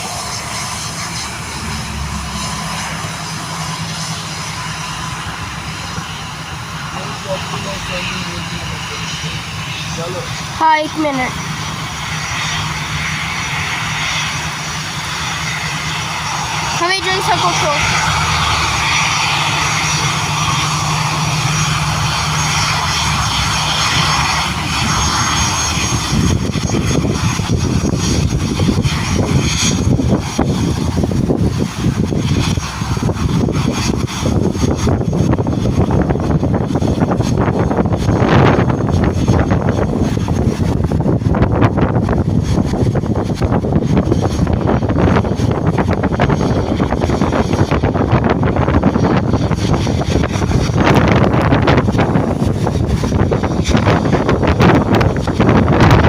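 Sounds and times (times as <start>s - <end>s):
jet aircraft engines running: 0.0s - 56.0s.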